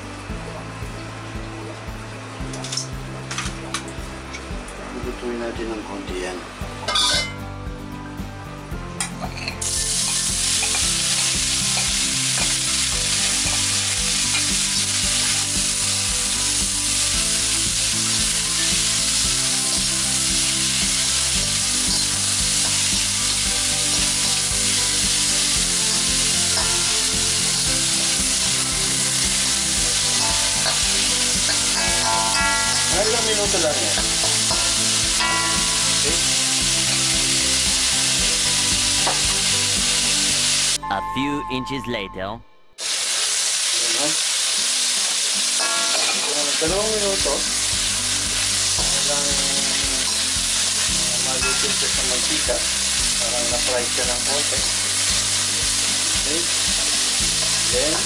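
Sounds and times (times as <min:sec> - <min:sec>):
vegetables sizzling in hot oil: 0:00.0 - 0:04.8, 0:09.0 - 0:40.8, 0:42.8 - 0:58.0.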